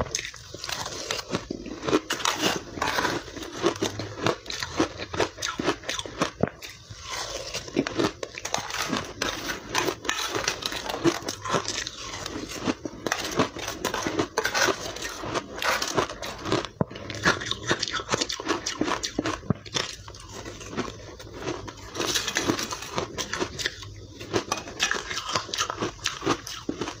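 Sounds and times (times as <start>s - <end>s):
chewing crunchy ice: 0.0s - 27.0s.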